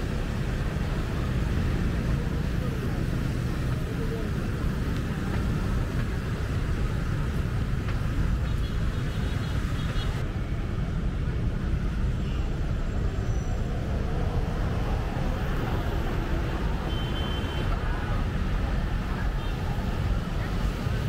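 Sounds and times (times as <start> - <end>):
traffic rumble: 0.0 - 21.0
voices of passers-by: 0.0 - 21.0.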